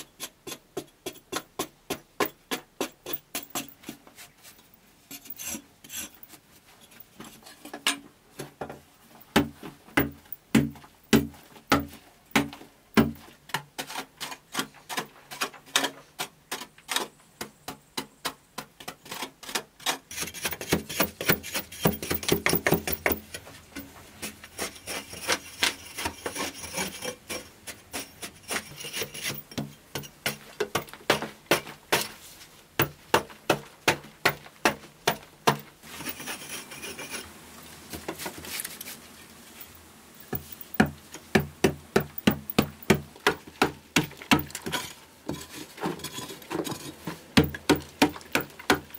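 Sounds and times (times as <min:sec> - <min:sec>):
hoe chopping and scraping earth: 0:00.0 - 0:06.2, 0:09.3 - 0:37.3, 0:40.3 - 0:48.9.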